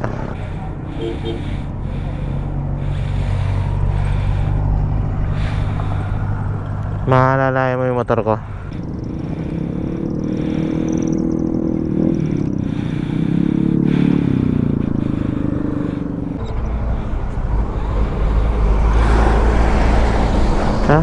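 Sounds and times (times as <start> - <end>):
deep low rumble: 0.0 - 21.0
vehicle engine running: 0.0 - 21.0.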